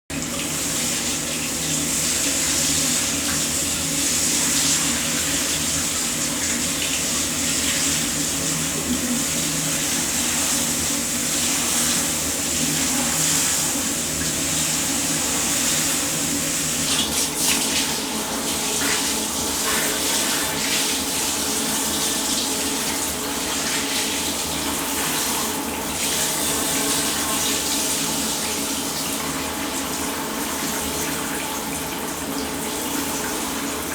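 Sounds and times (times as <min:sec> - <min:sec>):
water running from a tap: 0:00.1 - 0:33.9.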